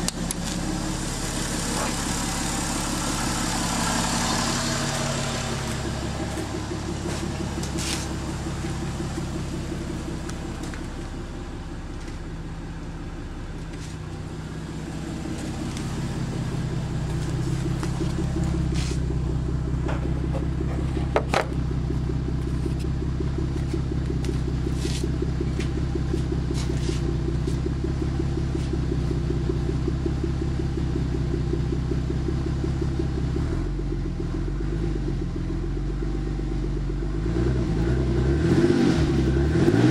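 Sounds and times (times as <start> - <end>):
car engine idling: 0.0 - 38.2.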